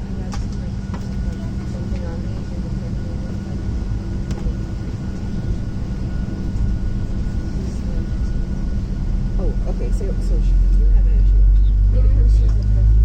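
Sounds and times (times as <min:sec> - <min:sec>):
airplane cabin hum: 0:00.0 - 0:13.0
thin steady whine: 0:00.0 - 0:13.0.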